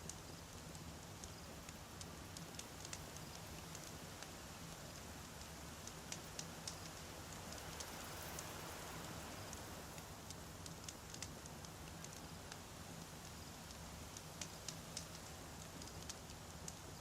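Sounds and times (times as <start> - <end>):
campfire crackling and popping: 0.0 - 17.0
soft steady hiss: 0.0 - 17.0.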